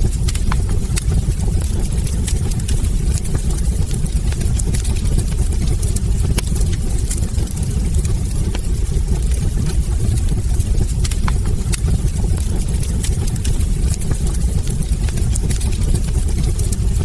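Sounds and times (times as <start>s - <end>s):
fire flames rumbling: 0.0s - 17.0s
logs crackling and popping: 0.0s - 17.0s.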